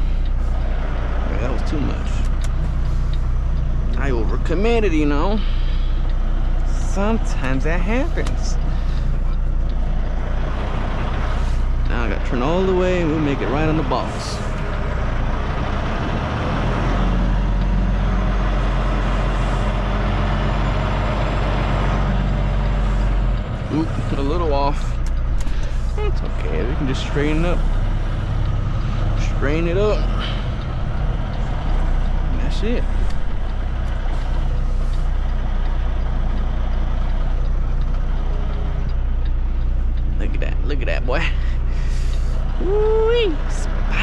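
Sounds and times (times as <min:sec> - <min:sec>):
diesel truck engine rumbling: 0:00.0 - 0:44.0.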